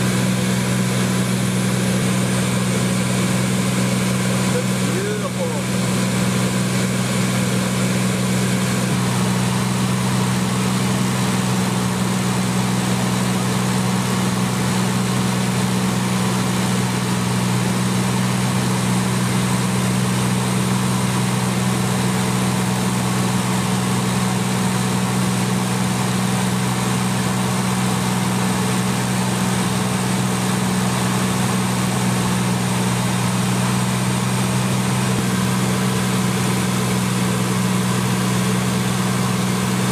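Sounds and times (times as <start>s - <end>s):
machine drone with hum and hiss: 0.0s - 39.9s.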